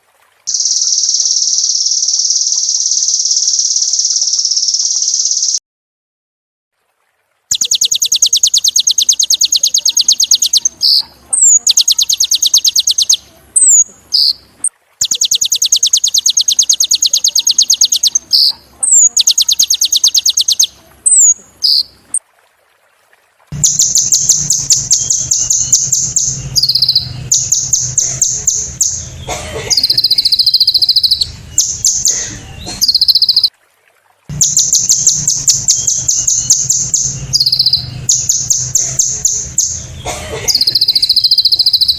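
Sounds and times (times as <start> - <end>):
sunbird singing buzzy trills: 0.5 - 5.6, 7.5 - 22.2, 23.6 - 33.5, 34.3 - 41.9.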